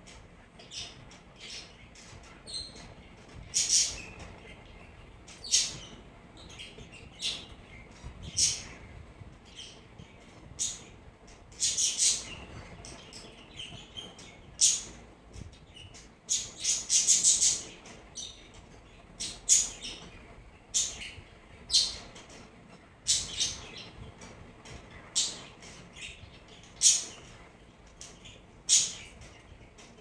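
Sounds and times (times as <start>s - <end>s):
small birds chirping: 0.0s - 22.4s, 23.0s - 24.2s, 24.9s - 30.0s.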